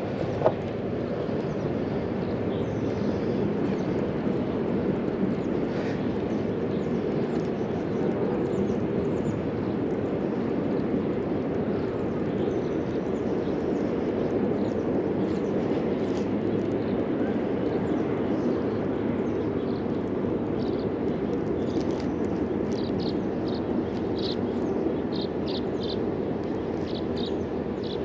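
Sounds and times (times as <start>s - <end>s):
low rushing background noise: 0.0s - 28.0s.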